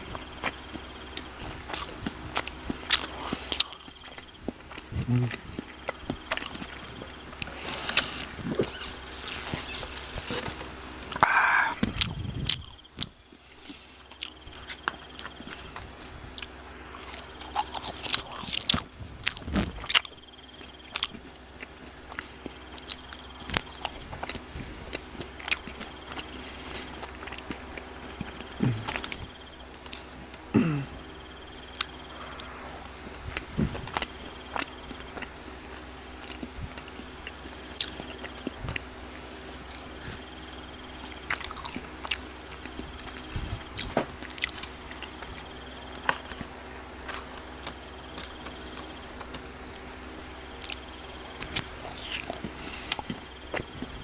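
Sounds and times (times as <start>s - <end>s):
crunchy chewing and biting: 0.0s - 54.0s.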